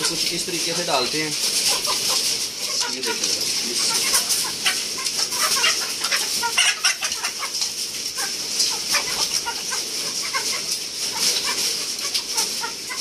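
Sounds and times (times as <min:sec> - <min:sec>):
beaks pecking at feed: 0:00.0 - 0:13.0
chickens clucking: 0:00.0 - 0:13.0.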